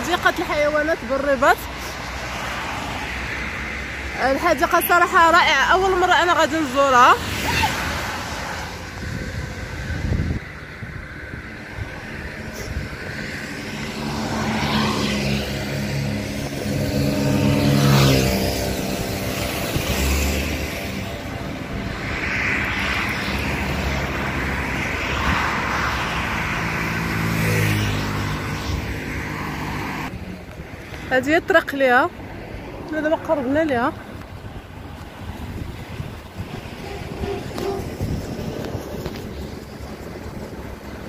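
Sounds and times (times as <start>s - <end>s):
road noise: 0.0s - 41.0s.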